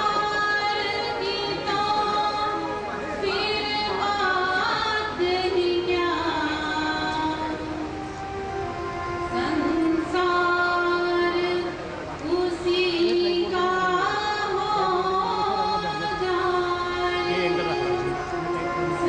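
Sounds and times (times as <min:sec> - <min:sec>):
person singing devotional song: 0:00.0 - 0:19.0.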